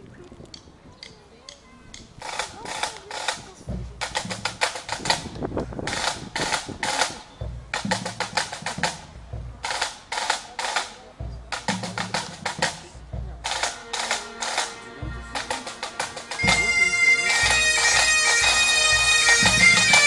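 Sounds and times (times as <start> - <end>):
bass drum beats: 2.0 - 20.0
snare drum rolls: 2.2 - 20.0.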